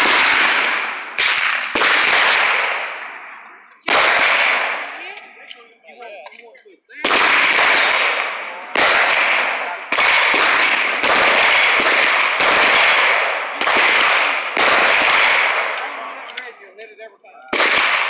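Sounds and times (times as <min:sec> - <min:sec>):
gunshots with echoing tail: 0:00.0 - 0:16.8, 0:17.4 - 0:18.0.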